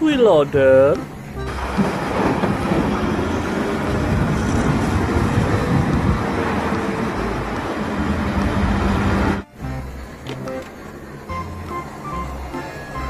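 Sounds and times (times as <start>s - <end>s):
wheel loader diesel engine rumbling: 0.0s - 13.0s.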